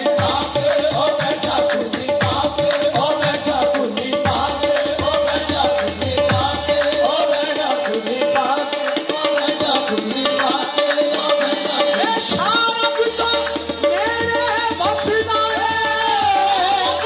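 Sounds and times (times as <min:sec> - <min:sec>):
hand drum fast rhythm: 0:00.0 - 0:17.0
harmoniums playing melody: 0:00.0 - 0:17.0.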